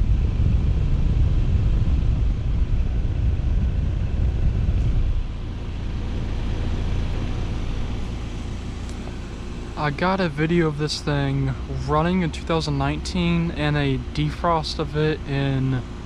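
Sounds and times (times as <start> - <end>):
heat pump rumble and rush: 0.0 - 16.0.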